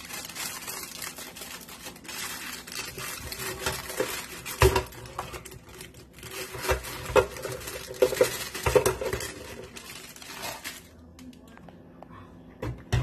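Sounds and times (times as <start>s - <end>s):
crackers clattering in canister: 0.0s - 11.0s.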